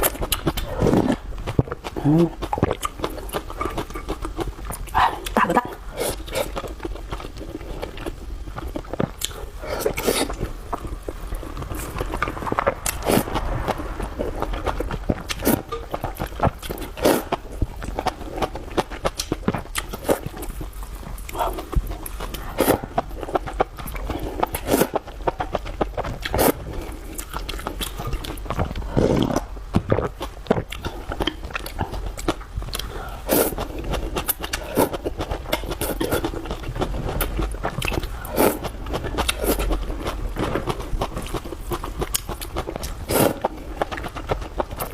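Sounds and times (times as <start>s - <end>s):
person biting and chewing food: 0.0s - 44.9s.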